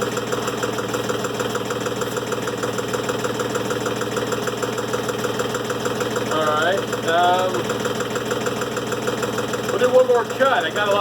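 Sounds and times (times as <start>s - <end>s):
sawmill engine idling: 0.0s - 11.0s.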